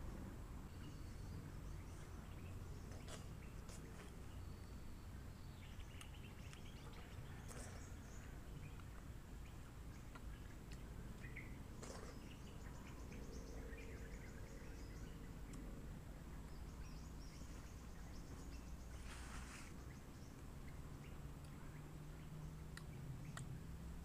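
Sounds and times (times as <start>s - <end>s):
birds chirping: 0.0s - 23.8s
steady low rumble: 0.0s - 24.0s.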